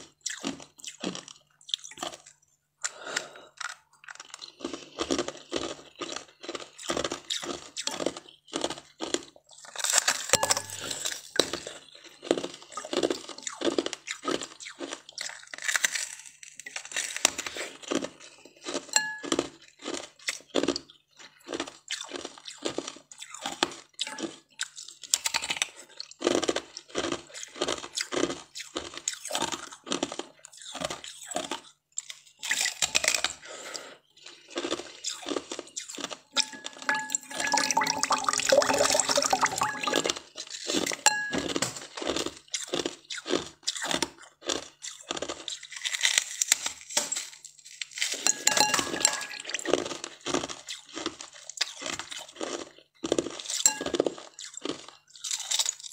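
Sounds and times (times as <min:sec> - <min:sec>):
ice crunching between teeth: 0:00.1 - 0:36.9, 0:37.8 - 0:55.9.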